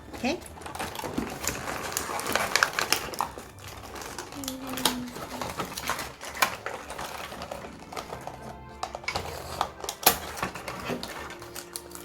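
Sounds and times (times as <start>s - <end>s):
plastic toy pieces clicking: 0.0s - 12.0s
quiet background music: 0.0s - 12.0s.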